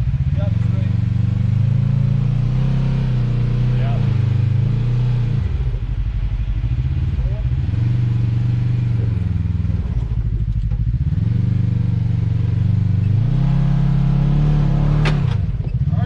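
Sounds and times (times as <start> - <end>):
utv engine revving under load: 0.0 - 5.8, 6.9 - 16.0.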